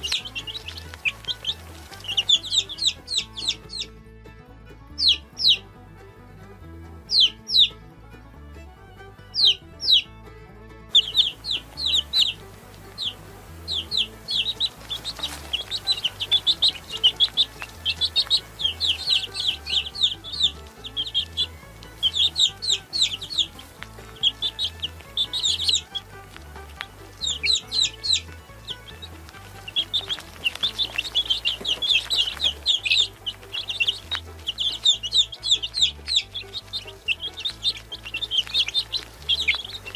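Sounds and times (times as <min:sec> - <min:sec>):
chicks peeping: 0:00.0 - 0:04.0, 0:04.9 - 0:05.8, 0:06.5 - 0:07.8, 0:09.1 - 0:10.1, 0:10.9 - 0:39.9.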